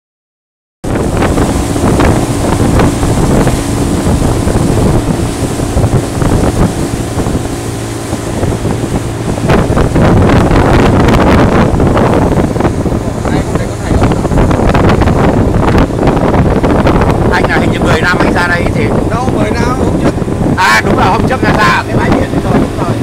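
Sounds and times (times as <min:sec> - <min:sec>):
boat engine hum: 0:00.8 - 0:23.0
rushing water: 0:00.8 - 0:23.0
wind buffeting microphone: 0:00.8 - 0:23.0.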